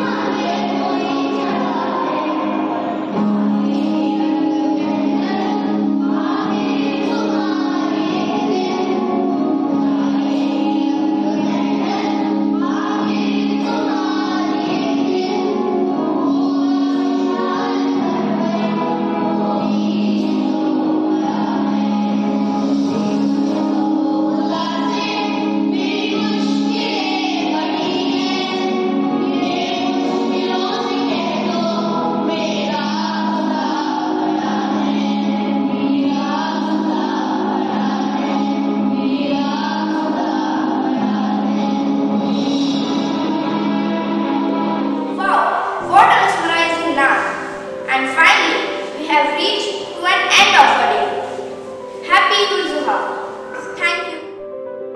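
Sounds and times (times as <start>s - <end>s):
children singing in unison: 0.0s - 54.9s.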